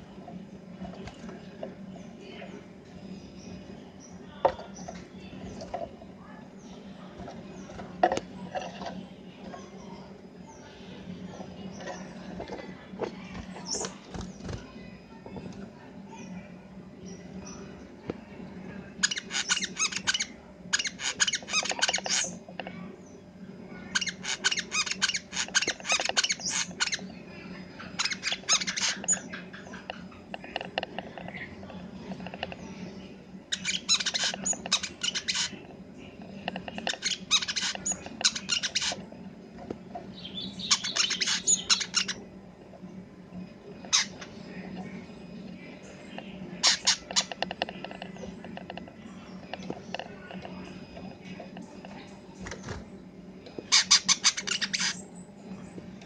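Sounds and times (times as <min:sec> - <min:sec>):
faint steady hum: 0:00.0 - 0:56.0
bird chirping and twittering: 0:00.8 - 0:53.0, 0:53.6 - 0:56.0.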